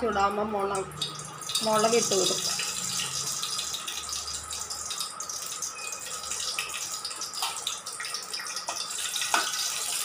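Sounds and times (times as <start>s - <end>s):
chillies sizzling in hot oil: 0.0s - 10.0s.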